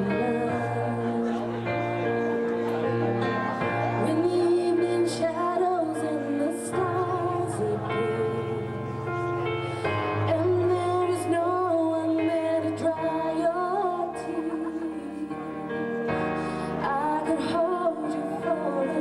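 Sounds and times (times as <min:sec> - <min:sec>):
instrumental backing: 0:00.0 - 0:19.0
person singing slow song: 0:00.0 - 0:19.0.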